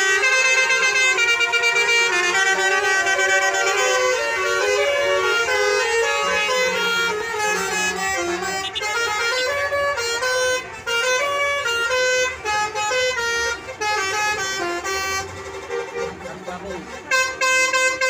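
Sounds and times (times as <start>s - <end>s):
melodic bus horns: 0.0s - 18.0s.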